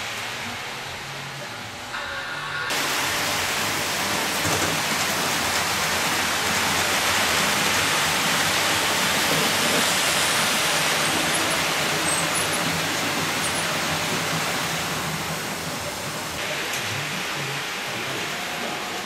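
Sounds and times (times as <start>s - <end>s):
model trains rushing hiss: 0.0s - 19.0s.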